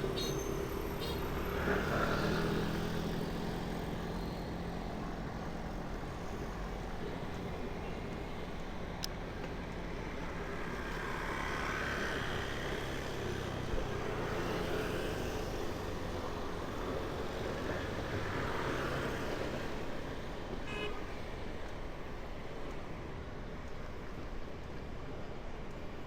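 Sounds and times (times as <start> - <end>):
street traffic passing: 0.0 - 26.0.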